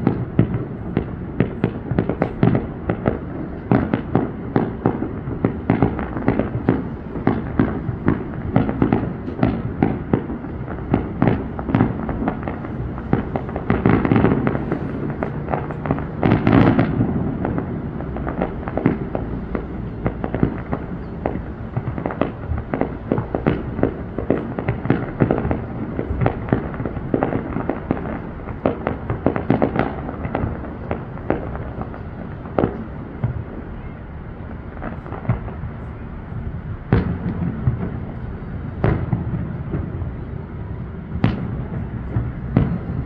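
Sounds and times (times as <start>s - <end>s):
booming firework bursts: 0.0s - 43.0s
fireworks bangs and pops: 0.0s - 43.0s.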